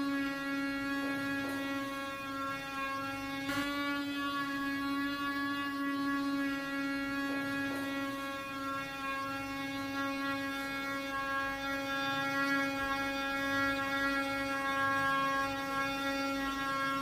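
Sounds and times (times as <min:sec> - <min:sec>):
water pump and fan humming: 0:00.0 - 0:17.0.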